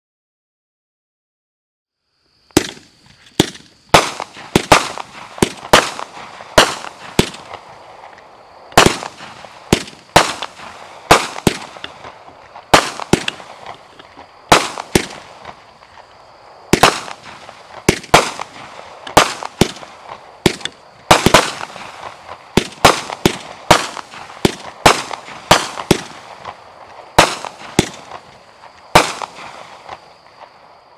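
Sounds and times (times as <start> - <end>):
firework bangs with echo: 2.6 - 8.1, 8.7 - 13.9, 14.5 - 15.7, 16.7 - 30.4.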